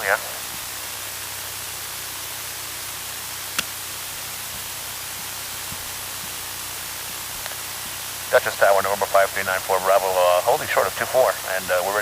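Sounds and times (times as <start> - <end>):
cockpit audio static hiss: 0.0 - 12.0
faint low hum: 0.0 - 12.0.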